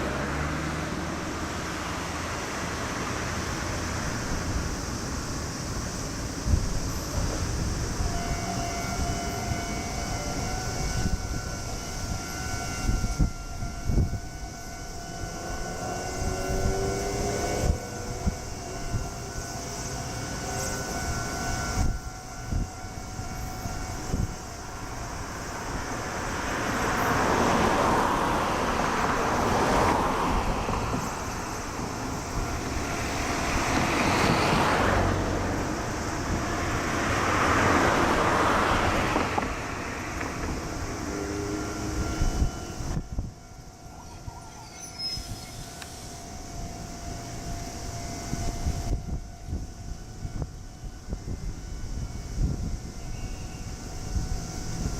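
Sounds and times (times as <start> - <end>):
train rumbling past: 0.0 - 54.9
level crossing alarm ringing: 8.1 - 54.9.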